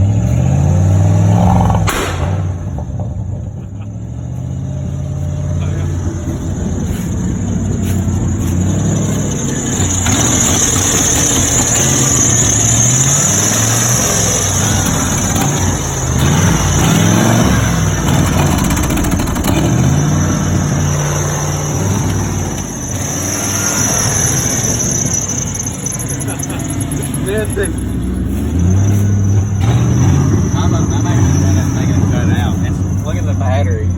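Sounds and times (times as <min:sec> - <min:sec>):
truck engine revving: 0:00.0 - 0:33.9
high-pitched whine: 0:01.0 - 0:33.9.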